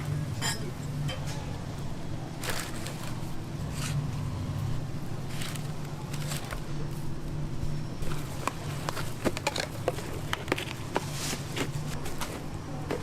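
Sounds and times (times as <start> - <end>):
low hum of kitchen equipment: 0.0 - 13.0.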